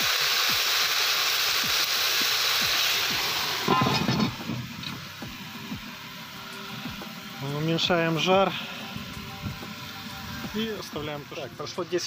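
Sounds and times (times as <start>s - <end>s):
broth sizzling in hot pan: 0.0s - 12.0s.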